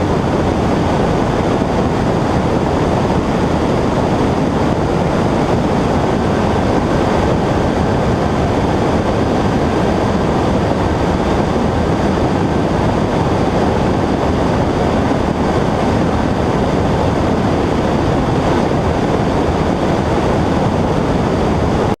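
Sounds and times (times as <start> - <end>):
airplane engine and propeller: 0.0 - 22.0
rushing wind: 0.0 - 22.0.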